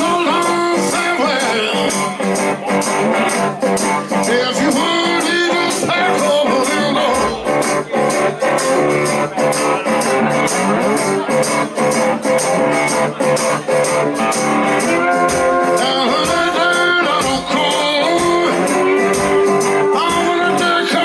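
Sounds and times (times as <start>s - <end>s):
drum beat: 0.0s - 10.7s, 13.6s - 21.0s
electric guitar playing: 0.0s - 21.0s.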